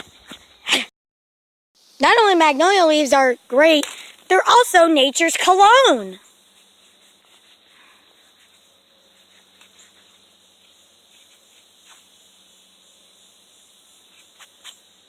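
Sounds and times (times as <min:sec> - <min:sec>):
high insect hiss: 0:01.8 - 0:15.0.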